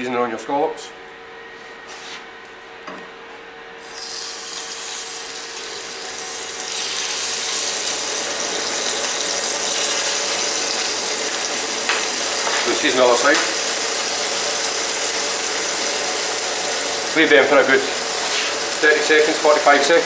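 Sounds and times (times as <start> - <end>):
scallops sizzling in oil: 3.8 - 20.0.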